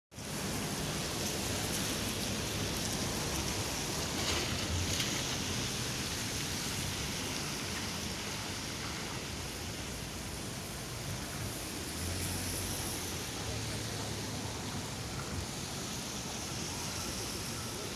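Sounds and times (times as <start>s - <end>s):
hiss of rain-soaked street: 0.1s - 17.9s
car tyres swishing on wet road: 0.2s - 17.9s.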